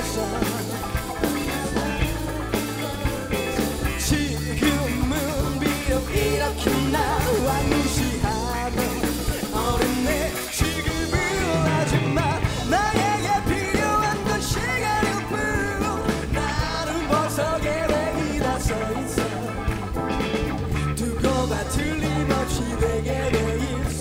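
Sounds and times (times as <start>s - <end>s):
pop-rock band playing: 0.0s - 24.0s
wavering melodic lead line: 0.0s - 24.0s.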